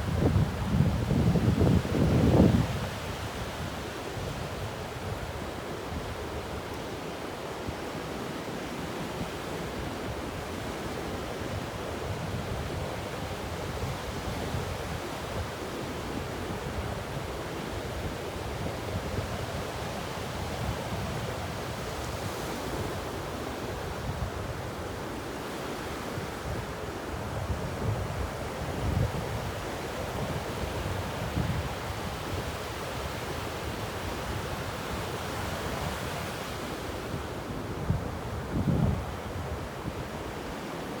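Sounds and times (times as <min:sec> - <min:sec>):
ocean waves washing onto beach: 0:02.6 - 0:41.0.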